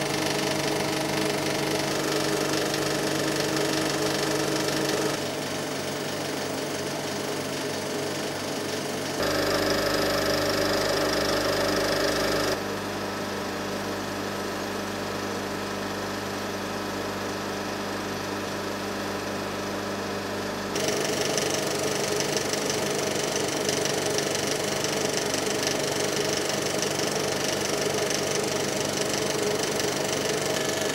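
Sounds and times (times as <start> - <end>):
film projector whirring and clattering: 0.0 - 30.9.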